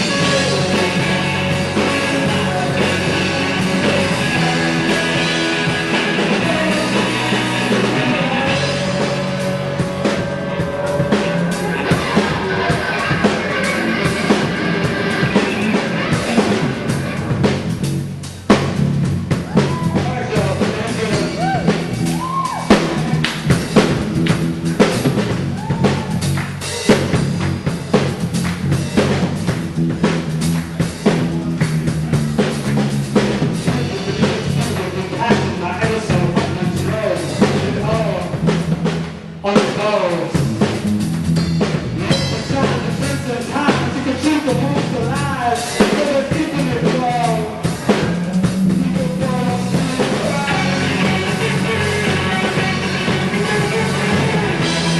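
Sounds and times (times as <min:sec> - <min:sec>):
drum kit: 0:00.0 - 0:54.9
rock band playing live: 0:00.0 - 0:54.9.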